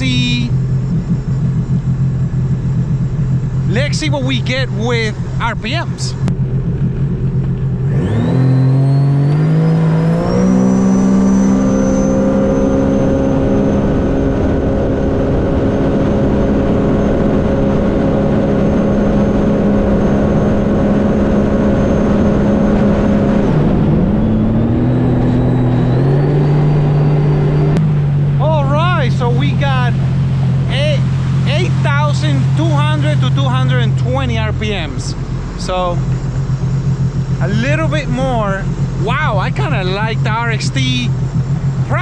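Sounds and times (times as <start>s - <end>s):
high whine: 0.0s - 42.0s
watercraft engine at full throttle: 0.0s - 42.0s.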